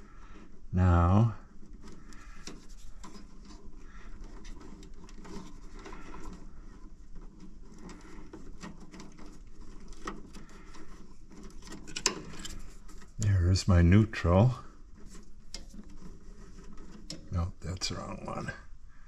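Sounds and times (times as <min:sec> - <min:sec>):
wires rustling and clicking: 0:00.0 - 0:19.0.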